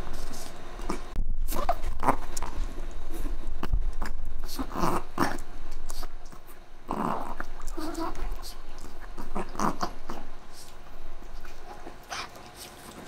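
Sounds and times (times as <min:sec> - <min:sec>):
dog gnawing on bone: 0:00.1 - 0:13.0.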